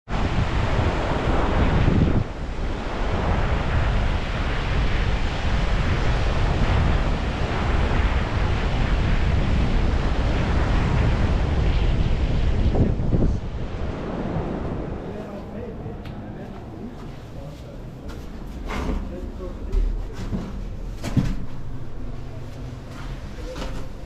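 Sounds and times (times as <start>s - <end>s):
wind buffeting microphone: 0.1s - 24.0s.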